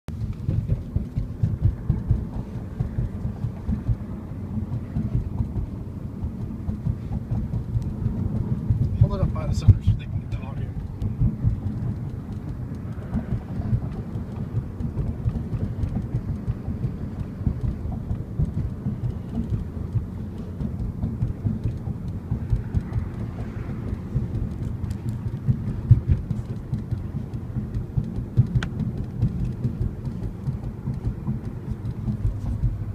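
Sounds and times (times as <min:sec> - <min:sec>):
low rumble inside car: 0:00.1 - 0:32.9
sunroof rapid irregular clicking: 0:00.1 - 0:32.9.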